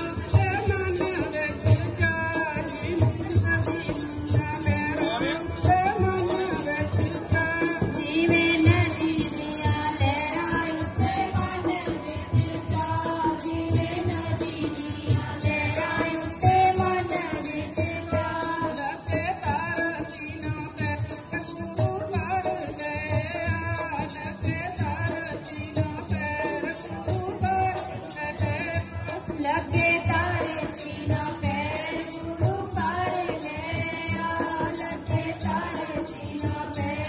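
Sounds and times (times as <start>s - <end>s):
jingling percussion: 0.0s - 37.0s.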